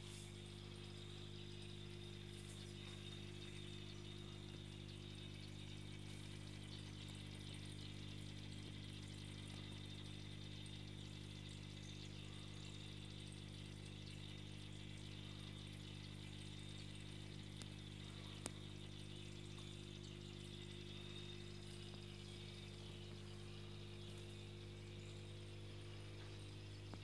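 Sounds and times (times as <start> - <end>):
aquarium filter pump hum: 0.0 - 27.0
water trickling and splashing: 0.0 - 27.0.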